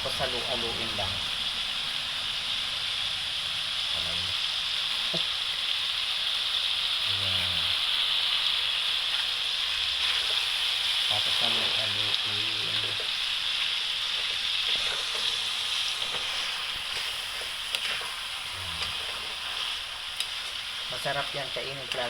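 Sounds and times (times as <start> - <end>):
rice sizzling in a frying pan: 0.0 - 22.0.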